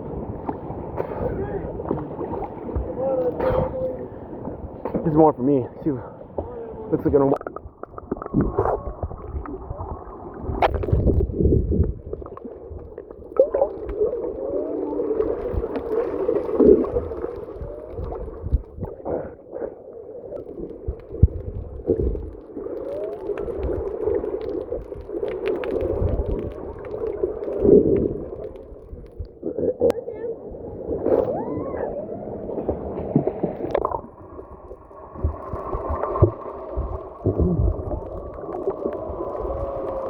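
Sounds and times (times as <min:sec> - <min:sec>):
gurgling water underwater: 0:00.0 - 0:05.0, 0:06.2 - 0:40.0.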